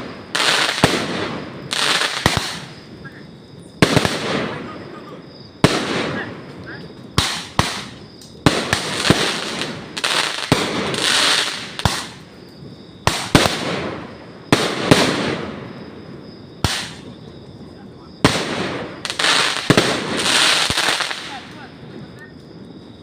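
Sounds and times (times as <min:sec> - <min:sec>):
fireworks bangs: 0:00.0 - 0:22.2
fireworks crackling fizz: 0:00.0 - 0:23.0.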